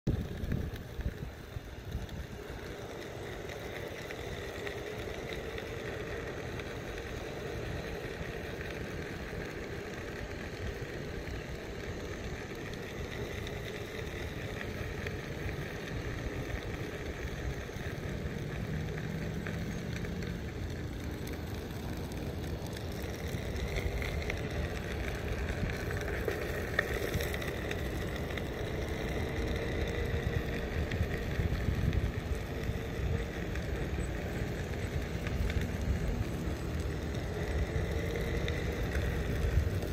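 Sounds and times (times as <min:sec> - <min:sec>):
wind and tyre rumble: 0:00.0 - 0:39.9
electric motor whine: 0:00.1 - 0:39.9.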